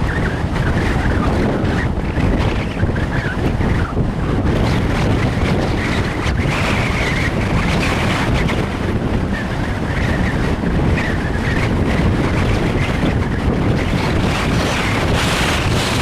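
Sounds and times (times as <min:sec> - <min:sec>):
high-pitched wind whistle: 0:00.0 - 0:16.0
wind buffeting microphone: 0:00.0 - 0:16.0.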